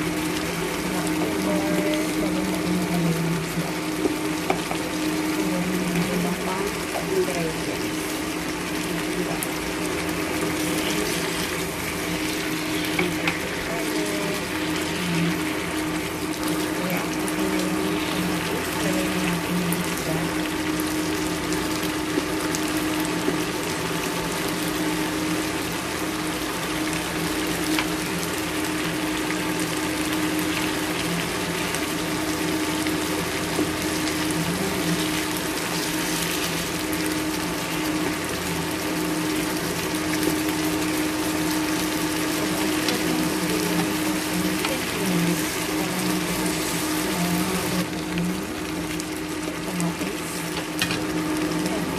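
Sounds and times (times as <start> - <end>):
fish sizzling in a frying pan: 0.0 - 51.9.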